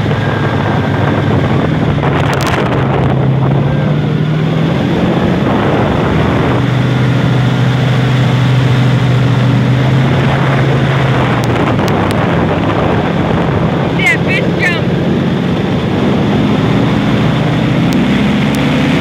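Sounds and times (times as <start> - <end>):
airboat engine and propeller: 0.0 - 19.0
wind buffeting microphone: 0.0 - 19.0.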